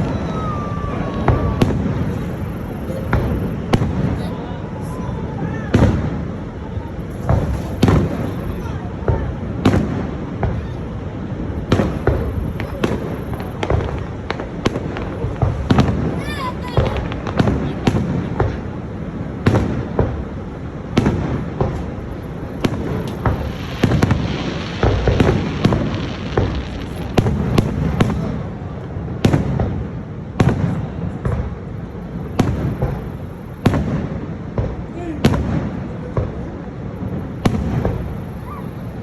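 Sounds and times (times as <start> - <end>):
fireworks bangs and booms: 0.0 - 39.0
fireworks crackling: 0.0 - 39.0.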